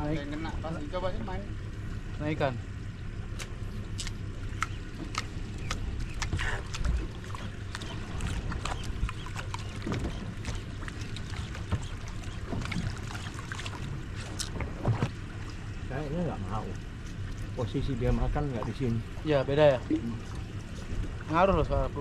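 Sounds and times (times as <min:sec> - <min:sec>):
steady low rumble: 0:00.0 - 0:22.0
water lapping against boat hull: 0:00.0 - 0:22.0
small splashes and ticks: 0:02.8 - 0:21.9.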